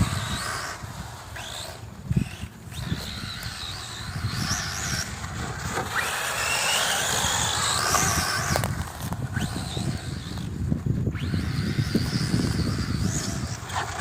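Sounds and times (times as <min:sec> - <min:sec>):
toy truck motor whining: 0:00.0 - 0:14.0
tyres rumbling over dirt: 0:00.0 - 0:14.0.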